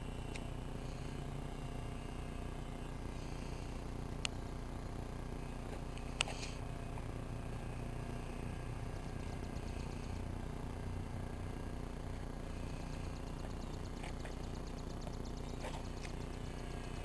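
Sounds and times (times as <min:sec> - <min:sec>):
toy airplane electric motors humming: 0:00.0 - 0:17.0.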